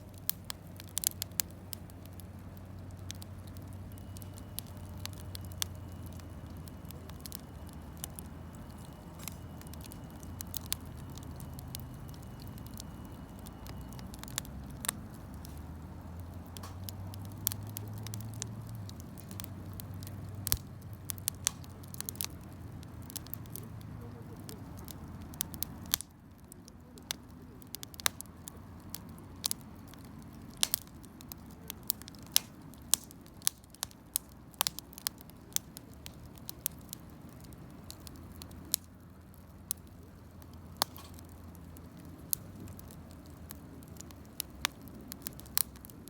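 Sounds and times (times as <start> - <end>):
campfire crackling and popping: 0.0 - 46.0
low steady hum: 0.0 - 46.0.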